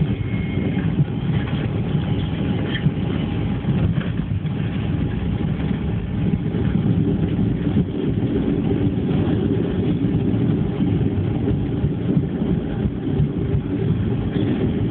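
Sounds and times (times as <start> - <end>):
jet engines rumbling in cabin: 0.0 - 14.9.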